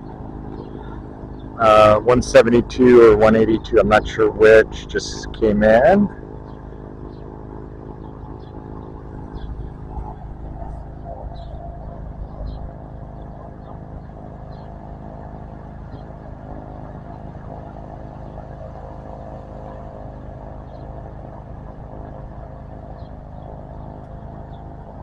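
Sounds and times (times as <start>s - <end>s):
turboprop engine idling: 0.0s - 25.0s.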